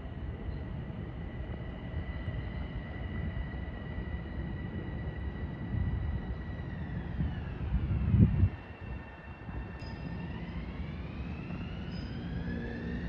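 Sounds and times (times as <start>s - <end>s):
train low rumble: 0.0s - 13.0s
train whine: 0.0s - 13.0s.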